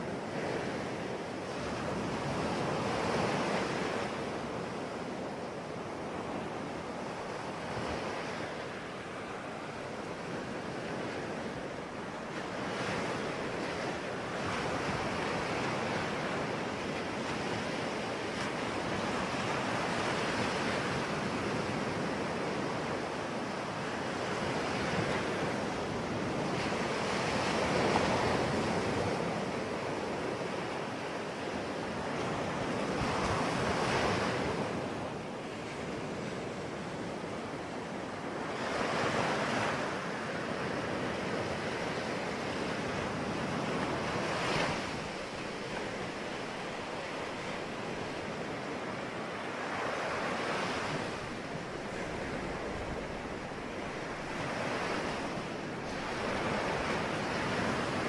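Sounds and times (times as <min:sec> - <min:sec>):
sea waves breaking on shore: 0:00.0 - 0:58.0
wind on microphone: 0:00.0 - 0:58.0.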